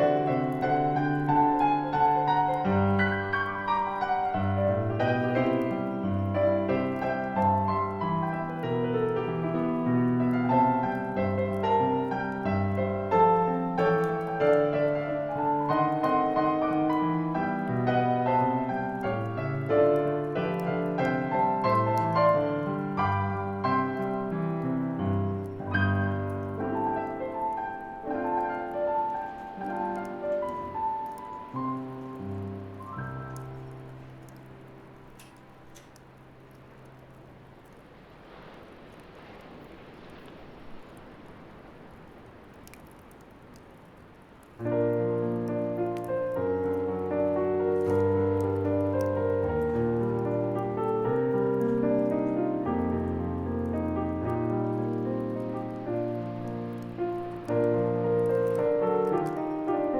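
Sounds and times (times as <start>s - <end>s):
bonfire crackling: 0.0s - 59.9s
solo piano: 0.0s - 59.9s.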